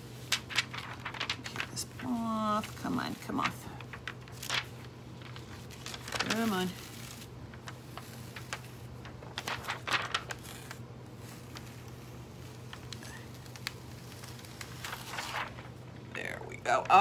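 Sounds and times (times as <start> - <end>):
plastic foil crinkling: 0.0 - 16.2
low steady hum: 0.0 - 17.0.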